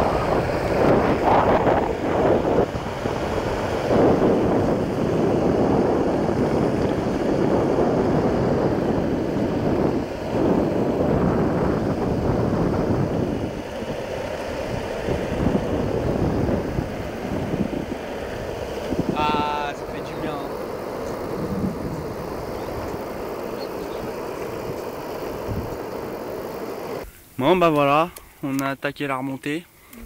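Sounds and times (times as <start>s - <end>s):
skateboard wheels rolling on asphalt: 0.0s - 27.0s
wind buffeting microphone: 0.0s - 27.1s.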